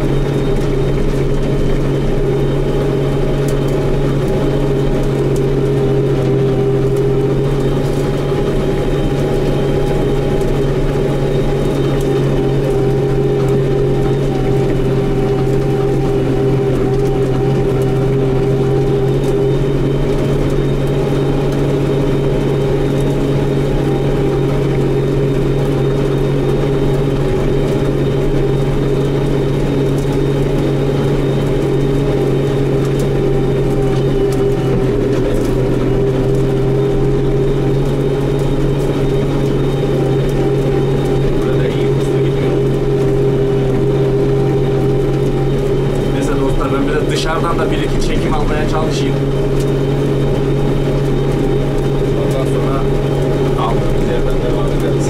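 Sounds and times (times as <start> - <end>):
tractor engine droning: 0.0 - 55.0.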